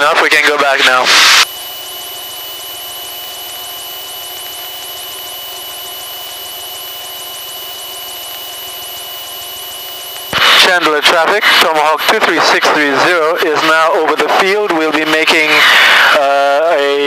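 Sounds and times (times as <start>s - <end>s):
propeller plane engine drone: 0.0s - 17.0s
thin high whine: 0.0s - 17.0s.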